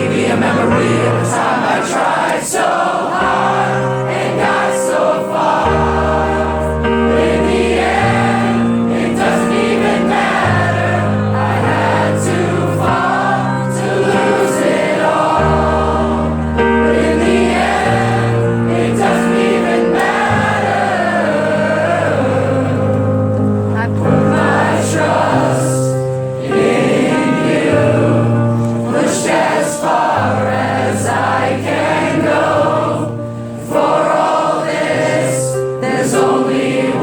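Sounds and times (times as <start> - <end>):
crowd singing along: 0.0 - 37.0
sustained keyboard chords: 0.0 - 37.0.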